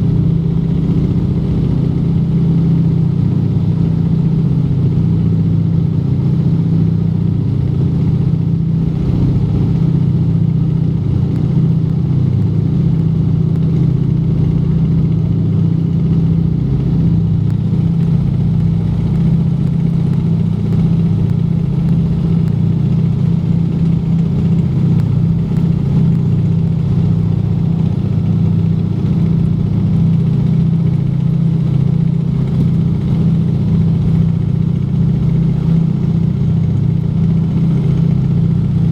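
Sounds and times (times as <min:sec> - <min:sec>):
aircraft engines droning in flight: 0:00.0 - 0:38.9.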